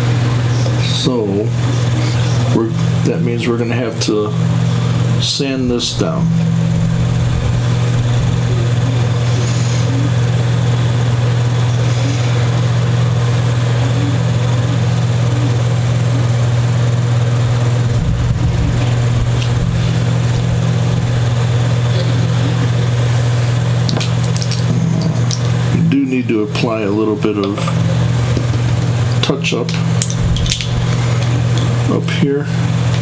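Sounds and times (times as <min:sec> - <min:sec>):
electric sander running: 0:04.3 - 0:31.9.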